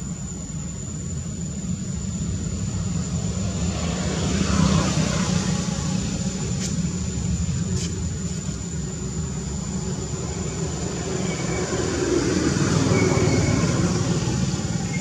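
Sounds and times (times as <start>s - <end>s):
passing engine rumble: 2.5s - 15.0s.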